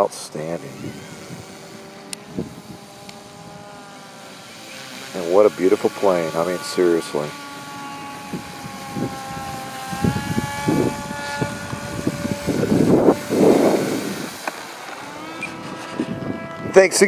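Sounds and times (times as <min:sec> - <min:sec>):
model airplane motor and propeller: 0:00.0 - 0:17.0
wind buffeting microphone: 0:00.0 - 0:17.0.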